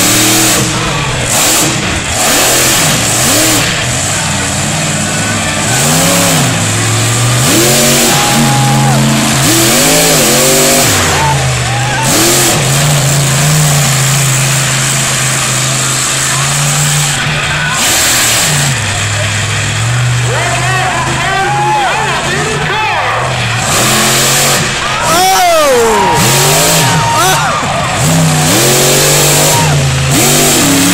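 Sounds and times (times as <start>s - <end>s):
monster truck engine revving: 0.0s - 30.9s.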